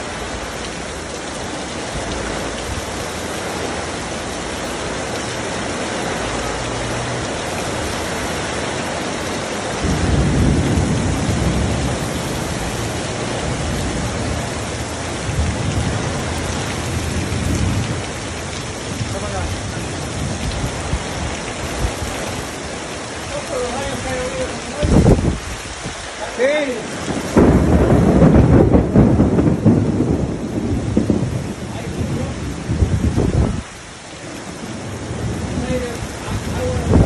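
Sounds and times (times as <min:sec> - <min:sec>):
heavy rain pouring: 0:00.0 - 0:37.0
rain drumming on a car: 0:00.0 - 0:37.0.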